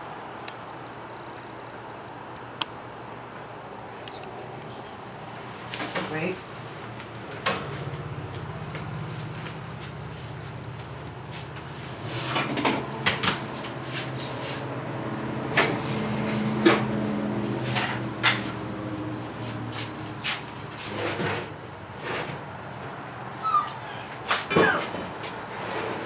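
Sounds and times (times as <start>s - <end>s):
steady hum: 0.0s - 25.3s.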